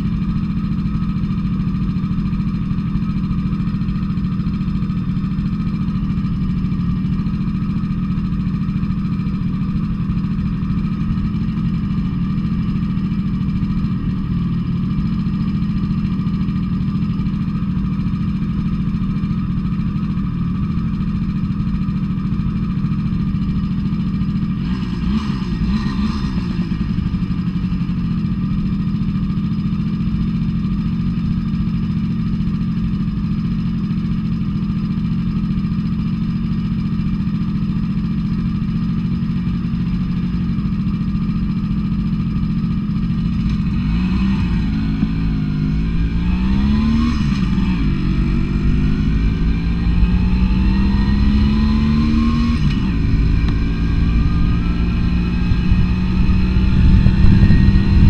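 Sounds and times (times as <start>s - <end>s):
moped engine idling and revving: 0.0s - 58.0s.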